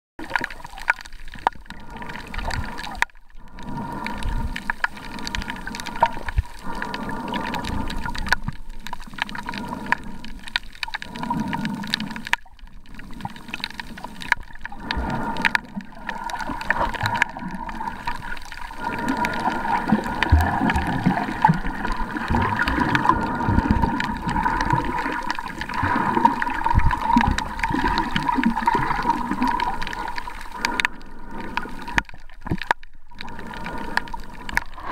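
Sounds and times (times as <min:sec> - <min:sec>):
underwater rumbling and sloshing: 0:00.2 - 0:34.9.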